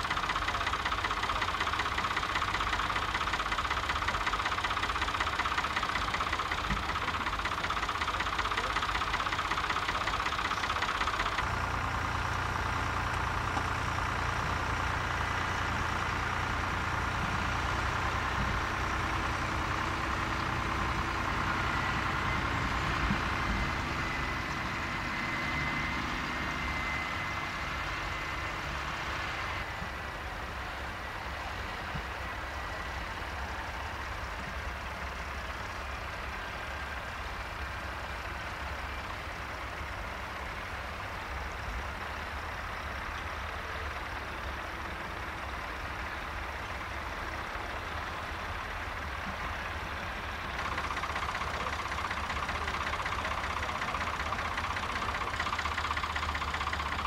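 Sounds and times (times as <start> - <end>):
tractor engines under load: 0.0 - 57.0.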